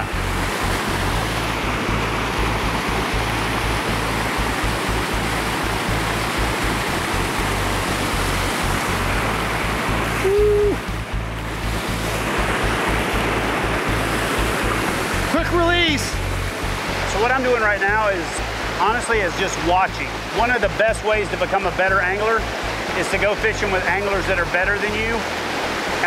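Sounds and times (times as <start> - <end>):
low flat tone: 0.0 - 26.0
stream rushing over waterfall: 0.0 - 26.0.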